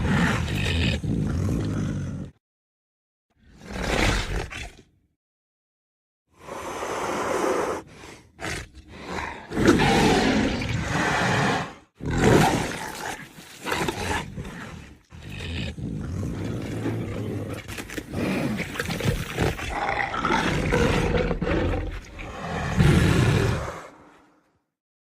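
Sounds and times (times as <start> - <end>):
dinosaur roars and growls: 0.0 - 2.4, 6.4 - 24.5.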